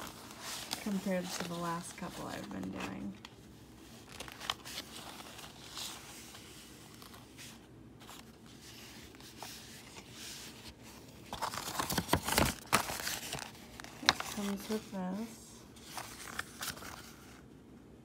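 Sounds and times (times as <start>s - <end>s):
canvas rustling and crinkling: 0.0s - 17.2s.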